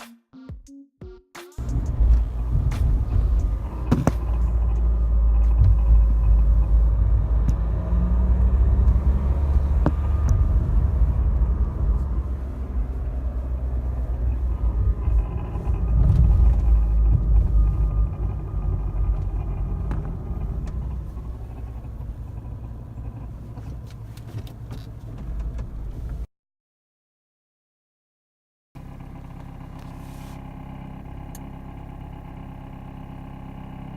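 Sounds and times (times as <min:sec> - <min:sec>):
diesel van engine rumbling: 0:01.6 - 0:26.3, 0:28.8 - 0:33.9.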